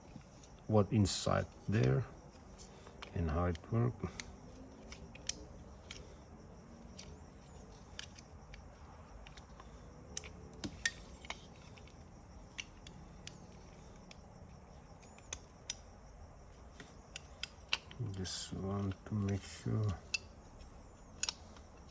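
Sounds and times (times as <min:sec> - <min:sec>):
small metal parts clicking: 0:00.0 - 0:16.0, 0:16.6 - 0:21.9
faint steady background noise: 0:00.0 - 0:21.9.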